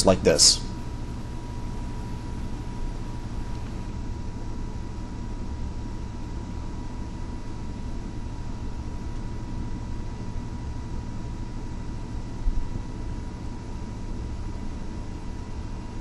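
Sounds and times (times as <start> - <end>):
faint constant whine: 0.0 - 16.0.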